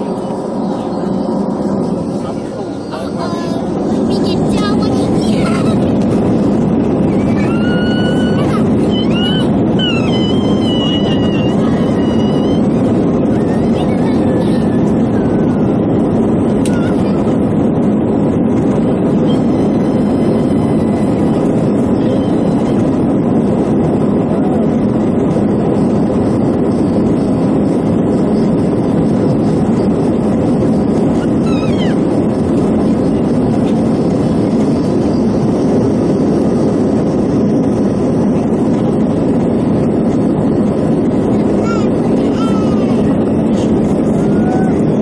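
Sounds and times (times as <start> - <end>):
jet engine hum in cabin: 0.0 - 45.0.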